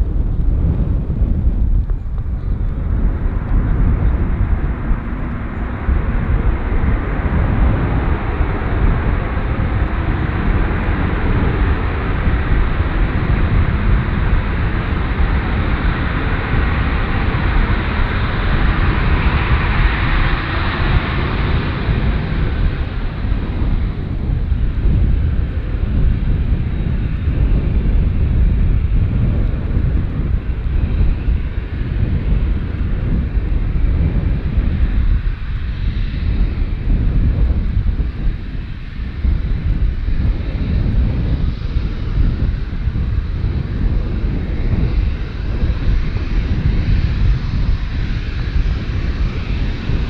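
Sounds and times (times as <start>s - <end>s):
airliner engines rumbling: 0.0s - 50.0s.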